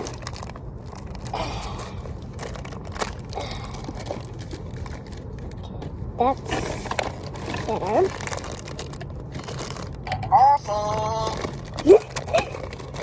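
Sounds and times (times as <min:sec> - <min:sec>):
packaging crinkling and scraping: 0:00.0 - 0:13.0.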